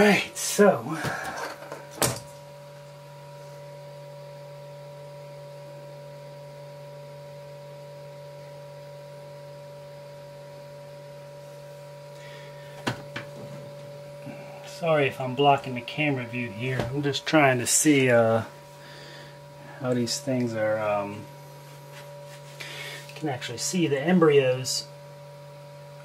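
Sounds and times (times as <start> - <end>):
machine hum with tones: 0.0 - 26.0.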